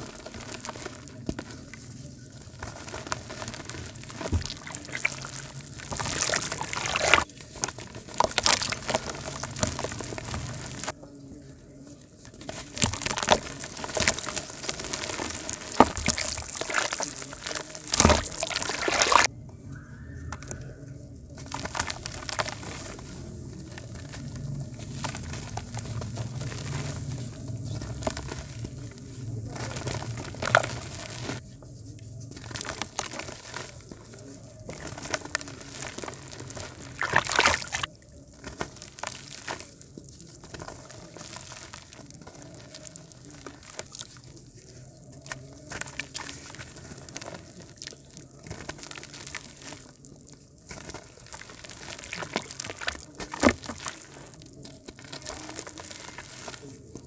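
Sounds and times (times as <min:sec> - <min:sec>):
crumbs pattering into water: 0:00.0 - 0:11.0, 0:12.2 - 0:19.3, 0:21.3 - 0:57.0
dried mud crunching: 0:00.0 - 0:57.0.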